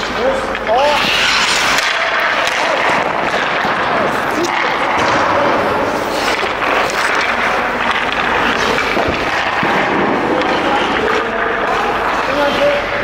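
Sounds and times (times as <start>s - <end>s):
hockey stick and puck knocks: 0.0s - 5.4s, 6.0s - 11.4s
echoing voices: 0.0s - 13.0s
skates scraping ice: 0.0s - 13.0s.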